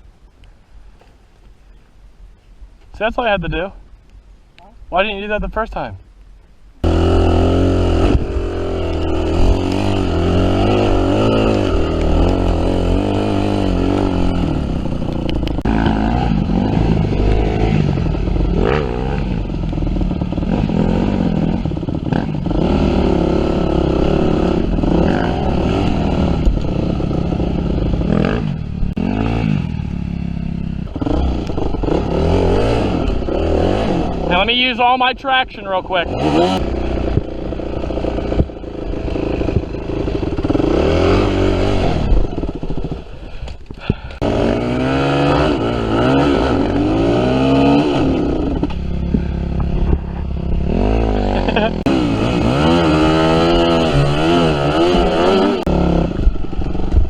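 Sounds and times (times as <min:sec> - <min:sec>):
dirt bike engine revving: 0:06.8 - 0:57.0.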